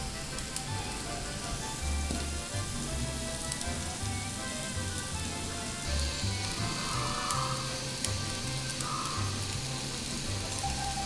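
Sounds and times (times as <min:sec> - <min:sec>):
background music with bass line: 0:00.0 - 0:11.0
gas oven hissing: 0:00.0 - 0:11.0.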